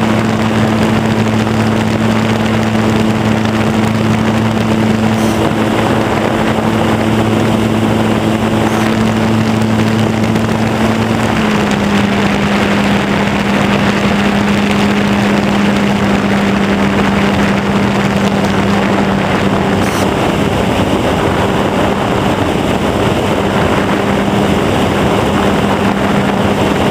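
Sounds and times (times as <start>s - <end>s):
model plane motor droning: 0.0s - 26.9s
wind rush: 0.0s - 26.9s.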